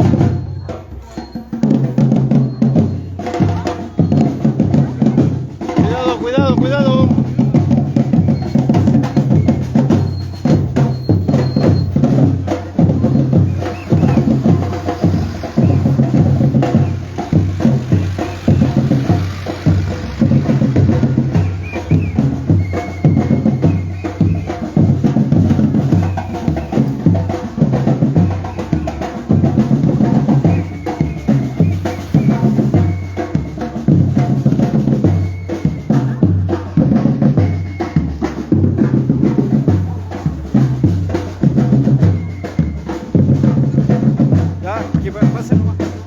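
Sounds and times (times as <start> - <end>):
fast snare drum strokes: 0.0 - 46.0
deep bass drums beating: 1.6 - 46.0.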